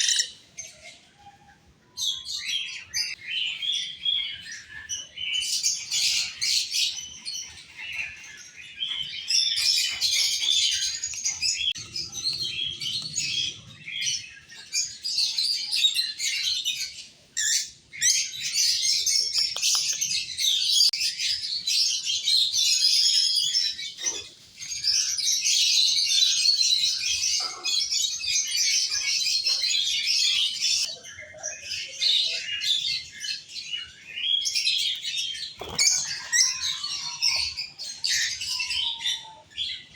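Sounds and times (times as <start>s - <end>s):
lovebirds chirping: 2.1s - 39.9s.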